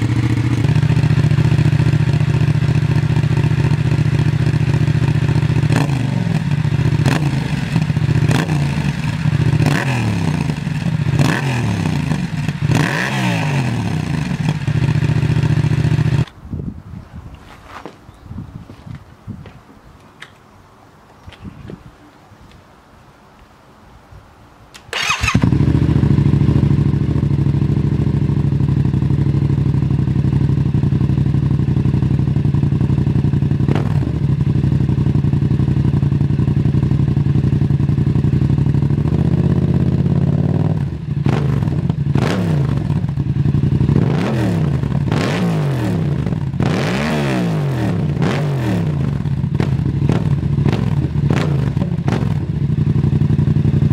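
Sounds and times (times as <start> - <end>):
motorcycle engine idling and revving: 0.0 - 16.4, 24.9 - 53.9.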